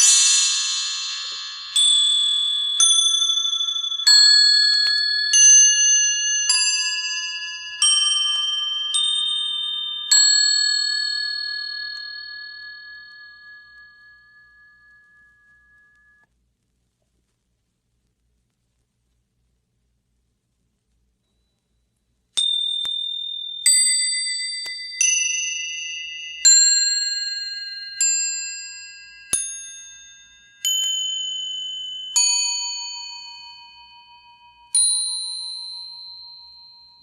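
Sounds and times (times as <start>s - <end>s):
small bells ringing: 0.0s - 16.3s, 22.4s - 37.0s.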